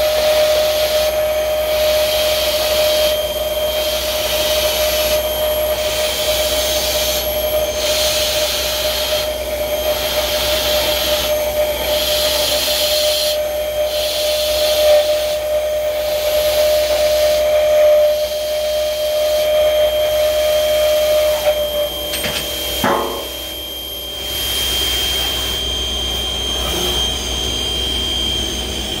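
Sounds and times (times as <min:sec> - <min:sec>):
hissing metal cutting: 0:00.0 - 0:29.0
milling machine whine: 0:00.0 - 0:29.0.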